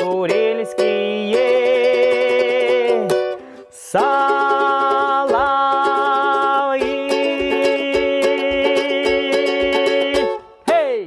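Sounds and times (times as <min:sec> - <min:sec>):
strummed acoustic strings: 0:00.0 - 0:11.0.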